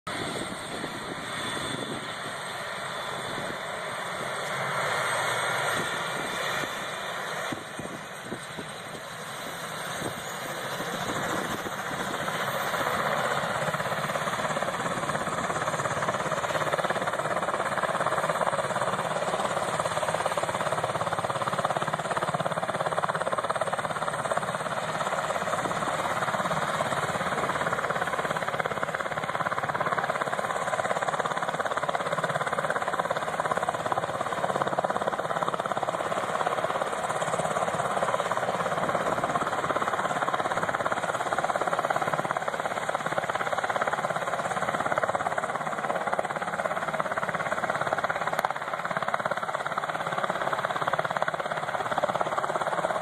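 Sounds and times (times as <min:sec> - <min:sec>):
helicopter engines and rotor: 0:00.0 - 0:53.0.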